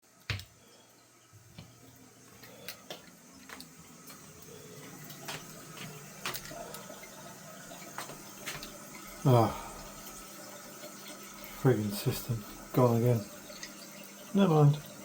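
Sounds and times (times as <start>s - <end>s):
toilet cistern refilling hiss: 0.1s - 15.0s.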